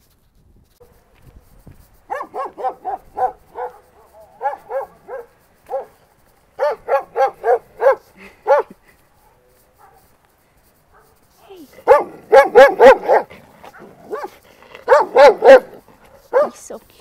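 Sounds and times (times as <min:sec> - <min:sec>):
large dogs barking: 0:02.1 - 0:10.2, 0:10.8 - 0:16.7.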